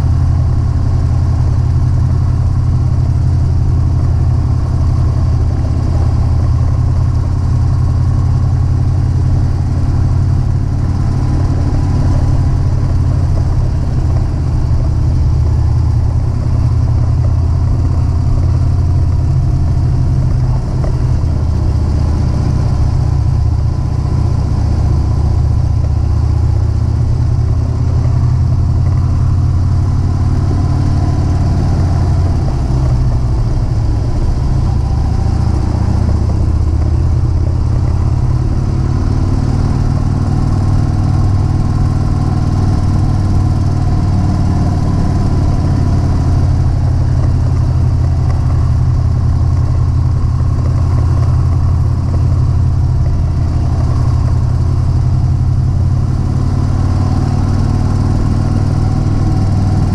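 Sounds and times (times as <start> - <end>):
motorcycle engine cruising: 0.0 - 59.9
wind noise: 0.0 - 59.9.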